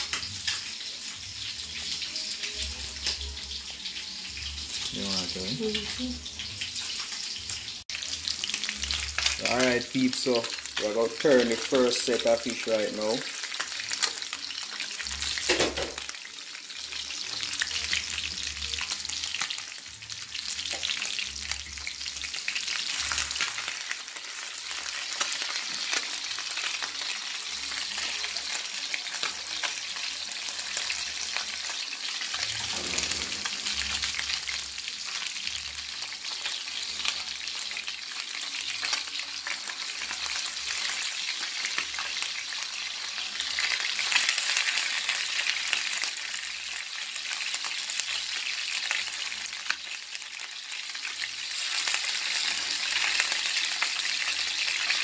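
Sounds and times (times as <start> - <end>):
fish frying in sizzling oil: 0.0 - 55.0.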